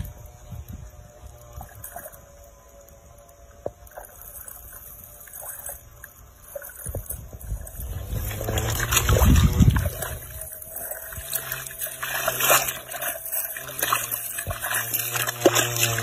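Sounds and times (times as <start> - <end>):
hands squelching in wet mud: 0.1 - 16.0.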